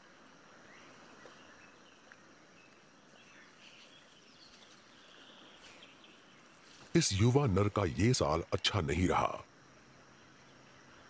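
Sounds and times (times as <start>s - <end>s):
faint bird chirps: 0.0s - 9.4s
low hiss: 0.0s - 11.0s.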